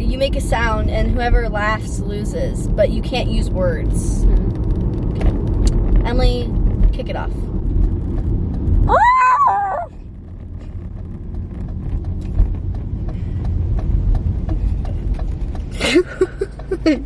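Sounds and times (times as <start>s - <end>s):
car road noise rumble: 0.0s - 17.0s.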